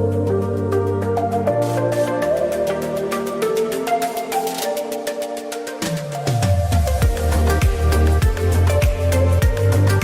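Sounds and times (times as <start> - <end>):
soft electronic music: 0.0 - 10.0.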